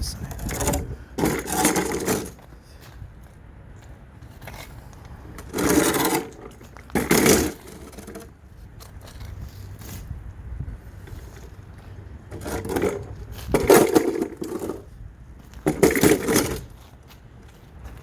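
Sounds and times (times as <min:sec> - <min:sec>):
loud scraping noises: 0:00.0 - 0:02.7, 0:04.2 - 0:15.0, 0:15.6 - 0:16.9.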